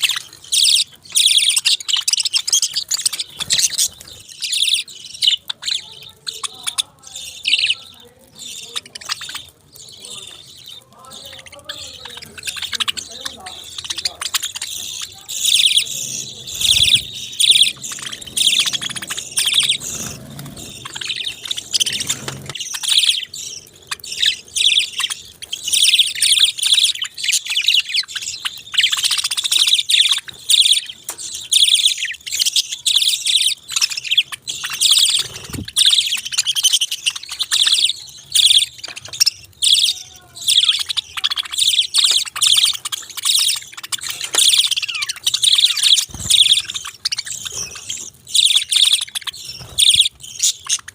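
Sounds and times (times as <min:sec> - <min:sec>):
budgerigars chirping: 0:00.0 - 0:50.9.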